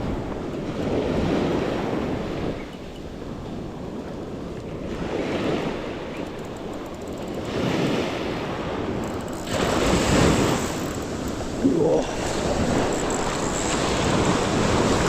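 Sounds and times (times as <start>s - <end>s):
surf waves breaking on beach: 0.0s - 15.0s
wind buffeting microphone: 0.0s - 15.0s.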